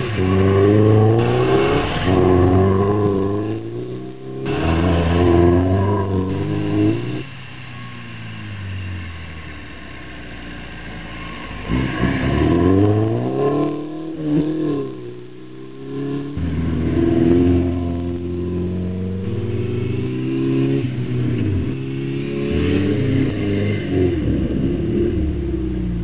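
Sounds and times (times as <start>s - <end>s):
car engine and exhaust revving: 0.0s - 26.0s.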